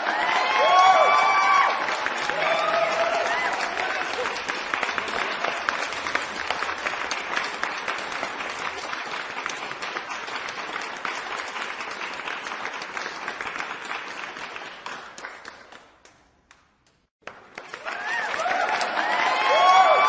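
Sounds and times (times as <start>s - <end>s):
crowd applauding: 0.0s - 16.6s, 17.2s - 20.0s.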